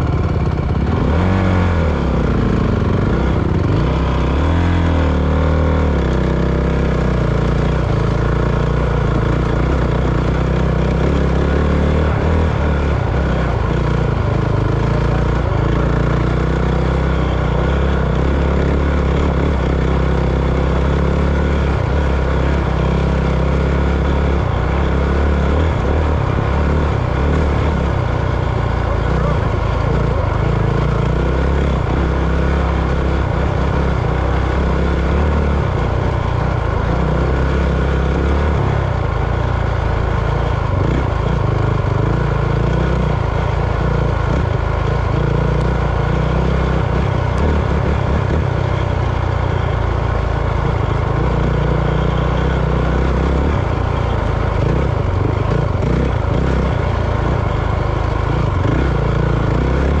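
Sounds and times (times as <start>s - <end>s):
vehicle engine running: 0.0s - 60.0s.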